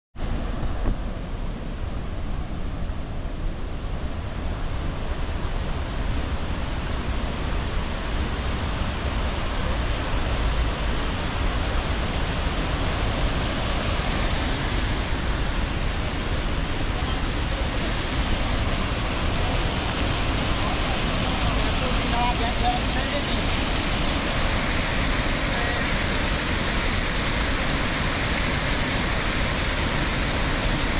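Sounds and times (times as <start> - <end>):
waterfall rushing: 2.3 - 30.9.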